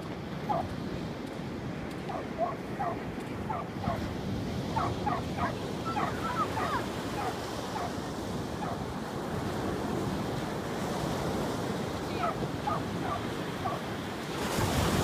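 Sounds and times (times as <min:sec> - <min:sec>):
surf washing on sand: 0:00.0 - 0:15.0
wind buffeting microphone: 0:00.0 - 0:15.0.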